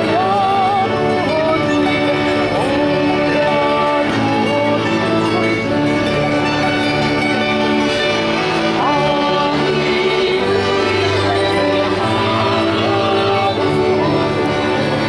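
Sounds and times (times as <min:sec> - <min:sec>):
melody over sustained chords: 0:00.0 - 0:15.0.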